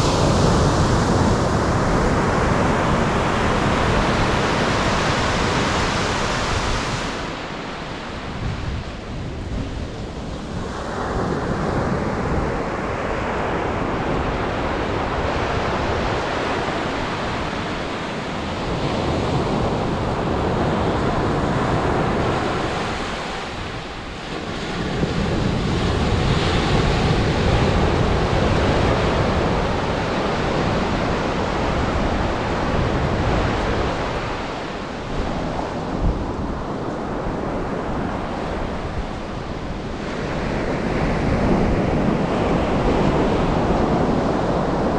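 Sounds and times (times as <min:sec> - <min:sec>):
surf breaking on beach: 0:00.0 - 0:44.9
wind buffeting microphone: 0:00.0 - 0:44.9.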